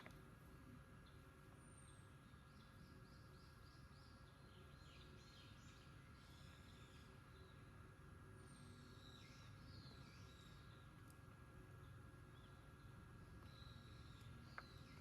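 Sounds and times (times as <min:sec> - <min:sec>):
faint bird singing: 0:00.0 - 0:15.0.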